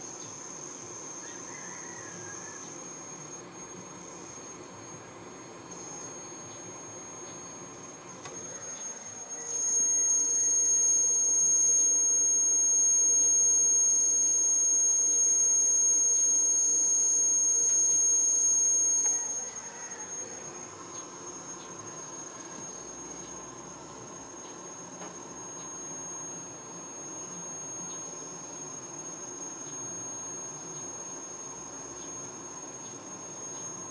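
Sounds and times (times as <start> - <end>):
shrill high-pitched whine: 0.0 - 33.9.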